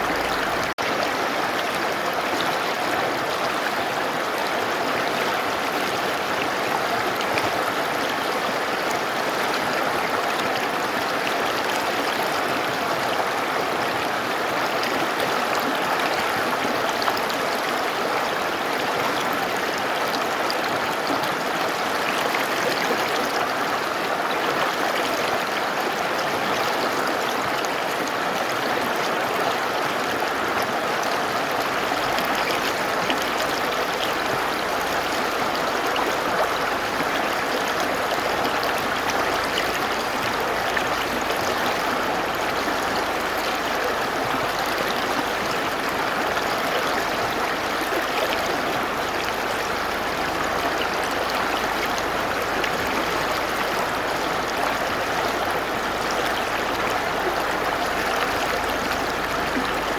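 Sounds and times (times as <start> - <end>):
mountain river flowing: 0.0 - 59.9.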